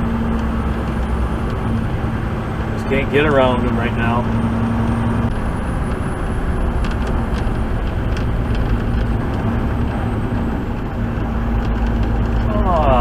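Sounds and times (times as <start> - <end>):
engine and road noise in cab: 0.0 - 13.0.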